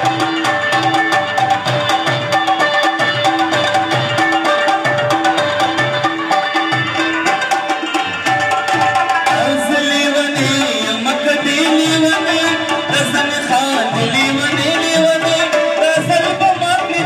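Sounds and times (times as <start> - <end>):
tabla drumming: 0.0 - 17.0.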